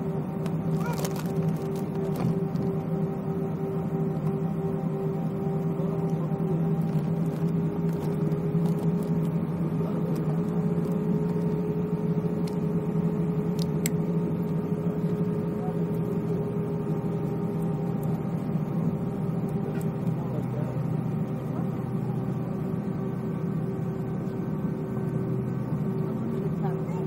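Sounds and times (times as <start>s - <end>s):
aircraft cabin drone: 0.0s - 27.0s.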